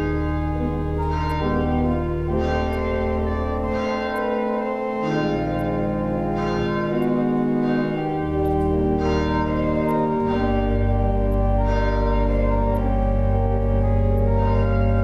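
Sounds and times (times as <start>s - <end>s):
church organ chords: 0.0s - 15.0s
deep bass pedal notes: 0.0s - 15.0s.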